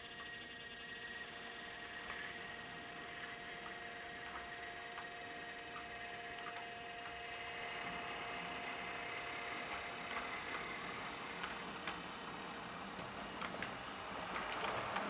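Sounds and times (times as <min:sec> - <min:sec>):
model train humming: 0:00.0 - 0:15.0
wheels clicking over rail joints: 0:01.3 - 0:15.0.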